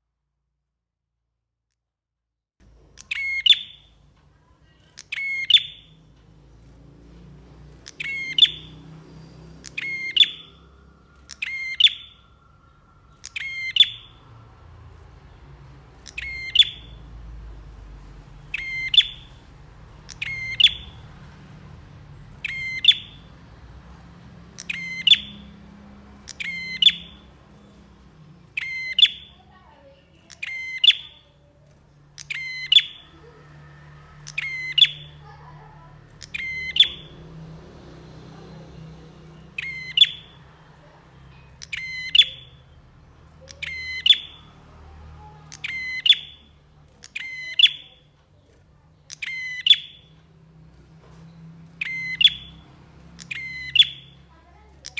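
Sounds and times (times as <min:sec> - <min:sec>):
faint low hum: 0:02.6 - 0:54.9
songbird chirping: 0:02.6 - 0:54.9.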